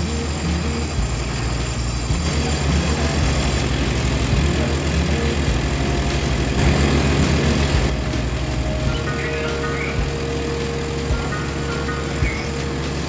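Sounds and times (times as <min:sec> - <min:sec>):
instrumental backing music: 0:00.0 - 0:13.0.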